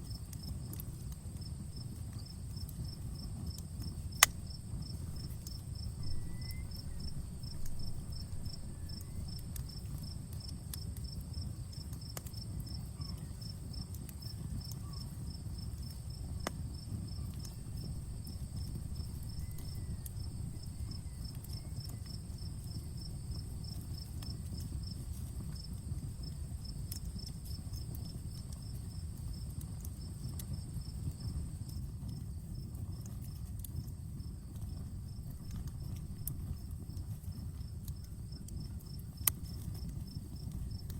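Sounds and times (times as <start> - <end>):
low steady rumble: 0.0 - 11.8, 15.2 - 40.9
campfire crackling and popping: 0.0 - 40.9
crickets chirping: 0.0 - 40.9
insect trill: 0.0 - 40.9.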